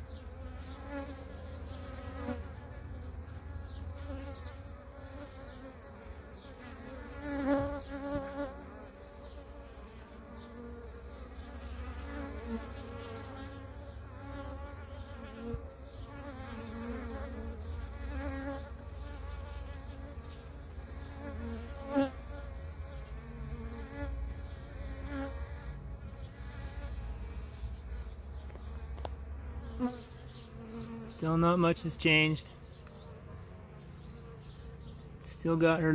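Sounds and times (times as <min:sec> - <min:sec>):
honeybees buzzing: 0:00.0 - 0:35.9.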